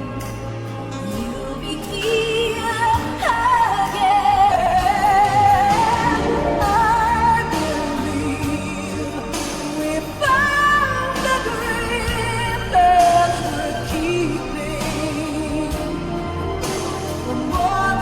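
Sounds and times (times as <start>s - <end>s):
ballad music: 0.0s - 18.0s.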